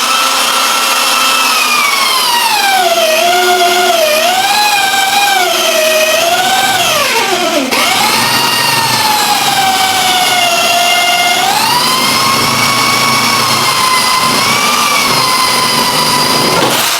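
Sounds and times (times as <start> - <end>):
electric spindle motor whining: 0.0 - 16.9.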